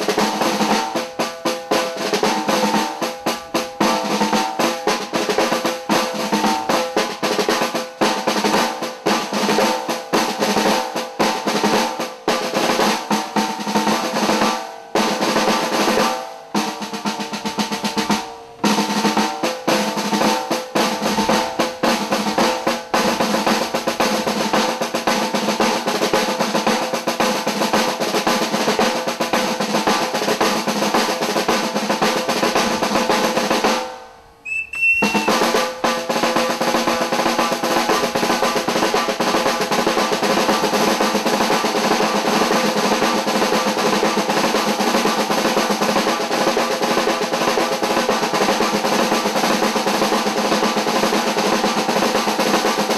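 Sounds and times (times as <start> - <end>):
snare drums playing rolls: 0.0 - 52.9.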